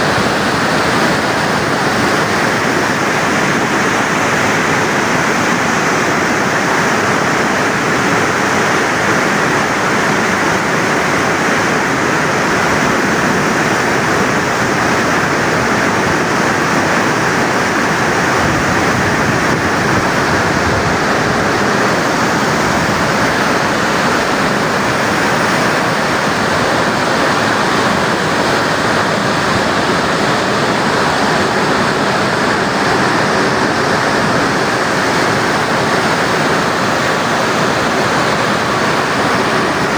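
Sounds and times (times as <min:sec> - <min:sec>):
loud rush of water: 0:00.0 - 0:39.9.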